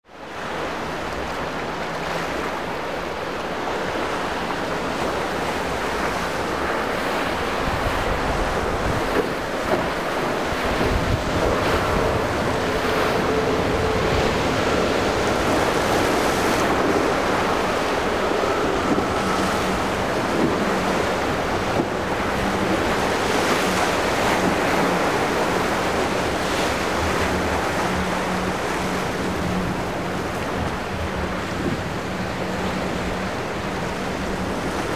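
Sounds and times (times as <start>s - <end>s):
surf and rushing sea water: 0.0s - 34.9s
outboard motors droning: 0.1s - 34.9s
wind buffeting the microphone: 4.4s - 34.9s.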